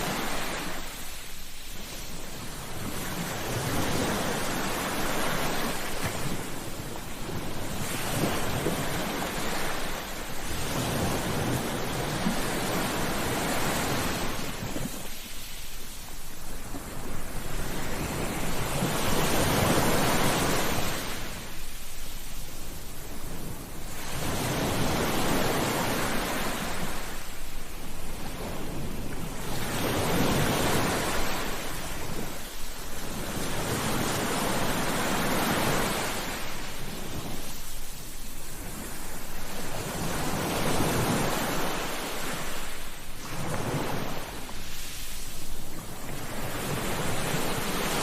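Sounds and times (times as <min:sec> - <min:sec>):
sea waves breaking on beach: 0:00.0 - 0:48.0.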